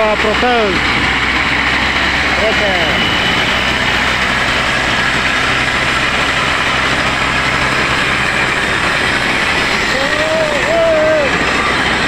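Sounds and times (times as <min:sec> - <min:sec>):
shredder engine running under load: 0:00.0 - 0:12.0.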